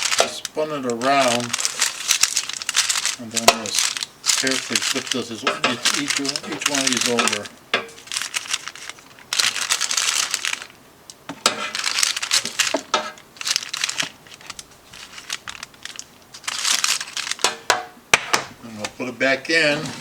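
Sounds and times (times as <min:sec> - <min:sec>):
parchment paper crinkling: 0:00.0 - 0:20.0.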